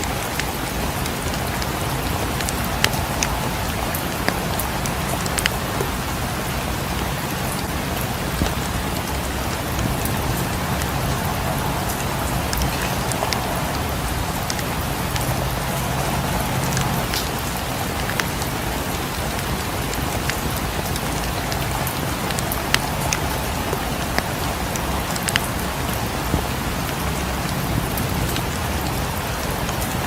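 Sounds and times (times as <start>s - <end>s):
steady rain: 0.0s - 30.0s
wood fire crackling: 0.2s - 26.2s.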